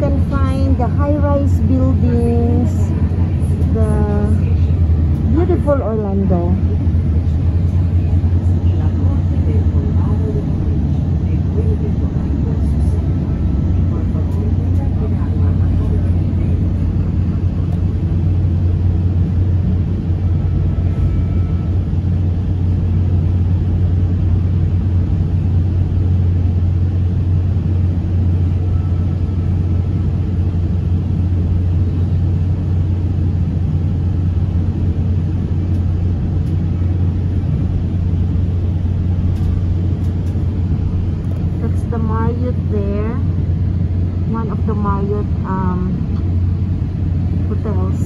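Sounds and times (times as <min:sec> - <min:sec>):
train rumbling inside coach: 0:00.0 - 0:48.0.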